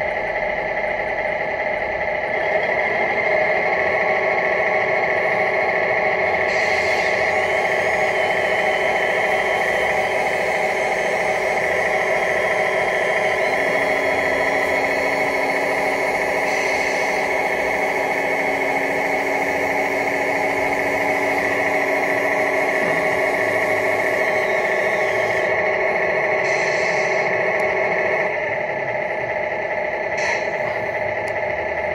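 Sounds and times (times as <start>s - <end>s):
hydraulic pump hum: 0.0s - 31.9s
model truck engine drone: 0.0s - 31.9s.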